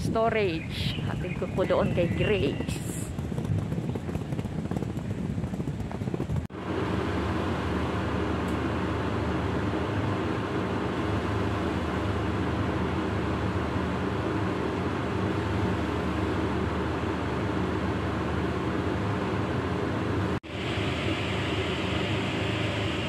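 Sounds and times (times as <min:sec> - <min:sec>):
steady mechanical hum: 0:00.0 - 0:23.0
uneven rumbling noise: 0:00.0 - 0:23.0.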